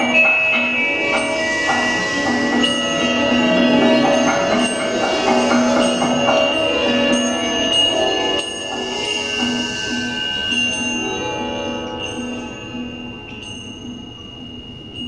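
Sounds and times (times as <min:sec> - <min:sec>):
lyres and other instruments playing: 0:00.0 - 0:15.0.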